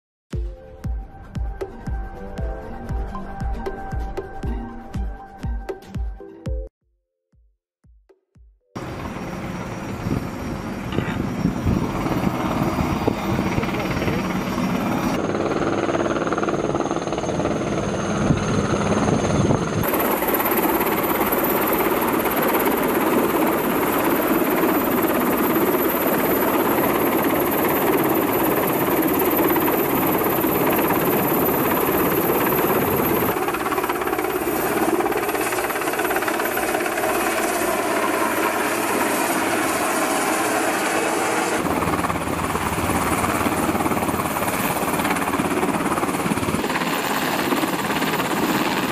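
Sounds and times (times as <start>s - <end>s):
helicopter rotor and engine: 8.8s - 48.9s.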